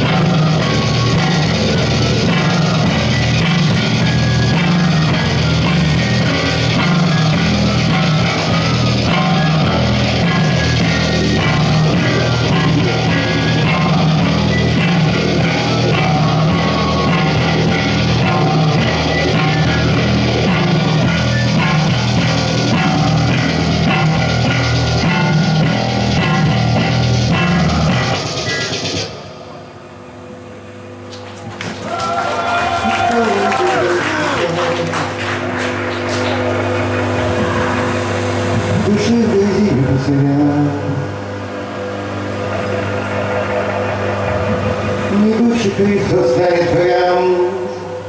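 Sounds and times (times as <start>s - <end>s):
drums: 0.0s - 47.1s
bass guitar: 0.0s - 48.0s
electric guitar: 0.0s - 48.0s.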